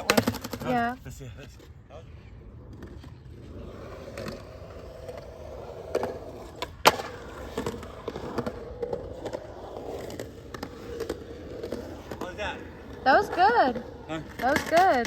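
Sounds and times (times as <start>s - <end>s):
skateboard clack: 0.0s - 0.9s, 2.6s - 15.0s
skateboard wheels rumbling: 0.0s - 15.0s.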